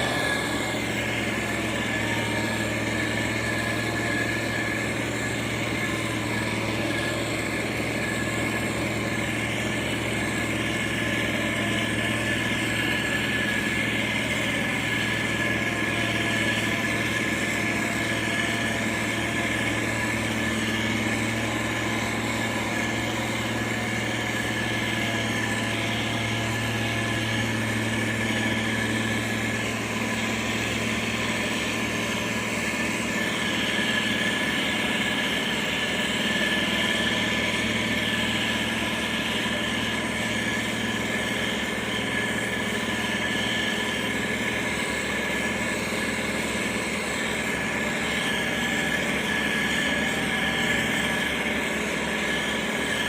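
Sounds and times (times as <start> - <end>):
diesel engine running: 0.0 - 53.0
steady high whine: 0.0 - 53.0.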